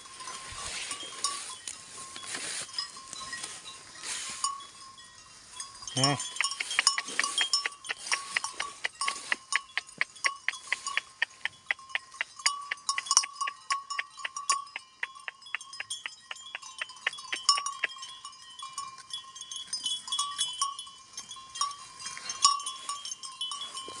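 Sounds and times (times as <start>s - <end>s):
small metal bell clanking: 0.0s - 24.0s.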